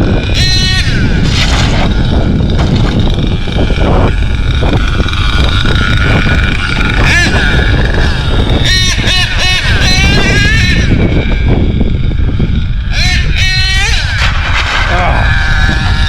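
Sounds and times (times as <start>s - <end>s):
heavy low rumble: 0.0s - 16.0s
small nitro engine revving: 0.0s - 16.0s.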